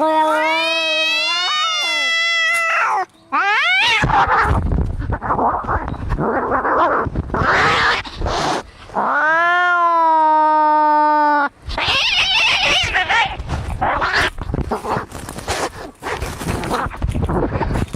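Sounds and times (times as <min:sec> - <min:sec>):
cats yowling and screeching: 0:00.0 - 0:15.2.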